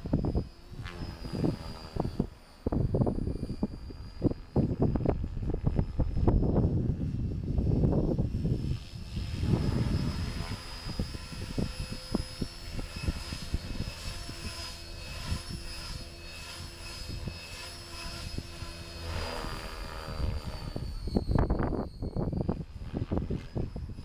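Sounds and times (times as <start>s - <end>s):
model helicopter motor whine: 0.0s - 24.0s
rotor whir: 0.0s - 24.0s.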